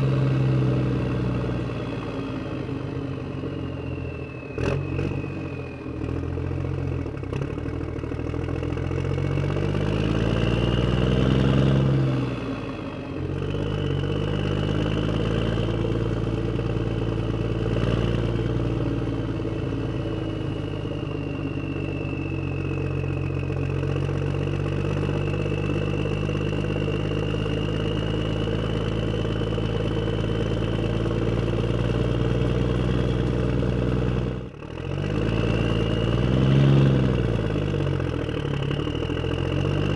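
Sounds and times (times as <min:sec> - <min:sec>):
simulated truck engine sound: 0:00.0 - 0:39.9.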